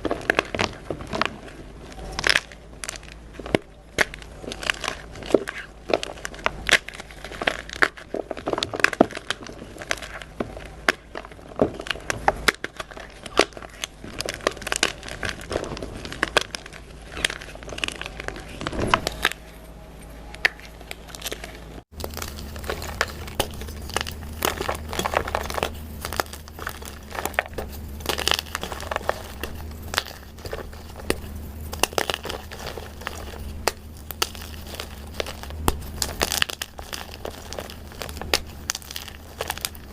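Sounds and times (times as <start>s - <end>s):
chalk crunching and crackling: 0.0s - 39.9s
steady low hum: 0.0s - 39.9s.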